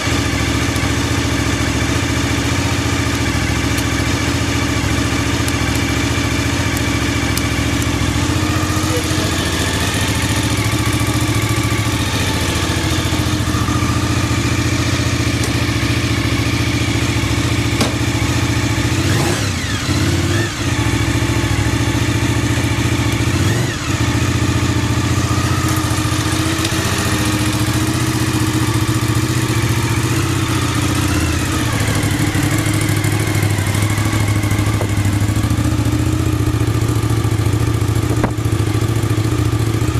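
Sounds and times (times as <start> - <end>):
motorcycle engine idling: 0.0 - 39.9
engine throttle blips: 3.0 - 39.6.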